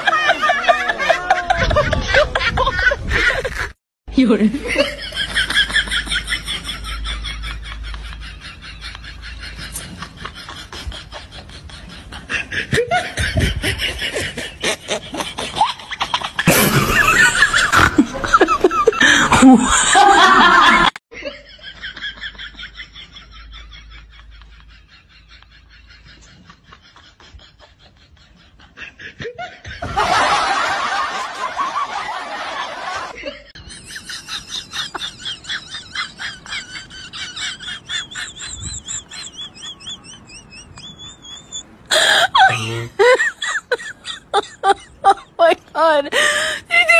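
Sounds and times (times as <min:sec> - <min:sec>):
people laughing: 0:00.0 - 0:03.8, 0:04.6 - 0:46.9.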